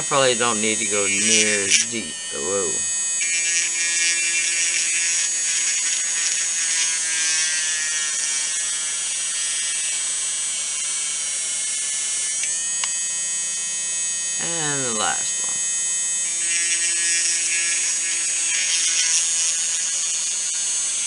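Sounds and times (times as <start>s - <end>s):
electric drill high-pitched whine: 0.0s - 21.0s.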